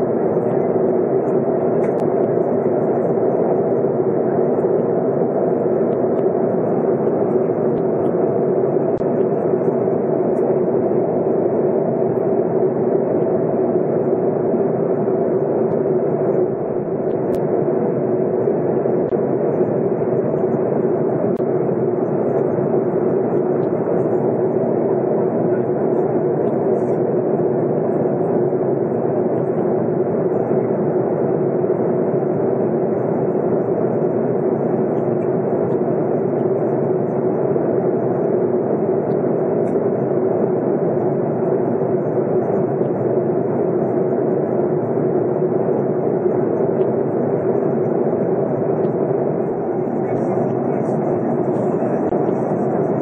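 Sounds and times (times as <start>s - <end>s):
jet engines humming: 0.0s - 53.0s.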